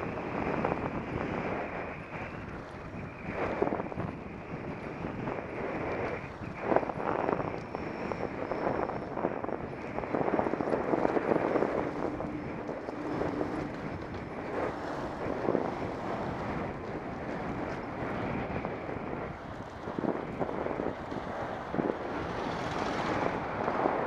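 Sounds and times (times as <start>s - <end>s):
faint engine hum: 0.0s - 24.0s
road and traffic noise: 0.0s - 24.0s
wind rushing over microphone: 0.0s - 24.0s.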